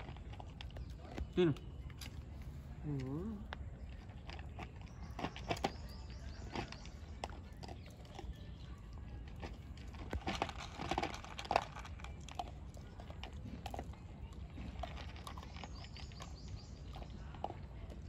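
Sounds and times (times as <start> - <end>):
dog chewing and crunching: 0.0 - 18.0.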